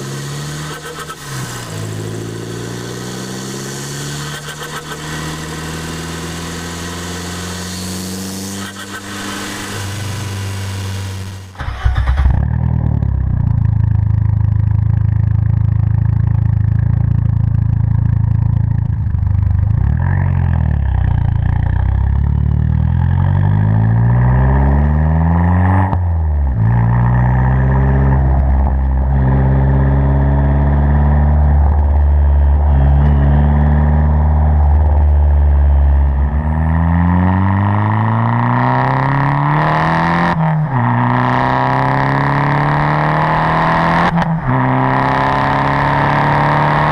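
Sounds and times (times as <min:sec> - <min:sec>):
car engine accelerating through gears: 0:00.0 - 0:14.8, 0:19.2 - 0:46.9.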